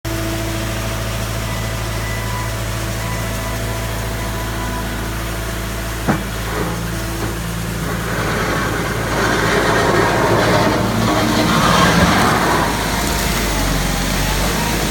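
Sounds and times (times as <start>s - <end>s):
loader engine running: 0.0s - 14.9s.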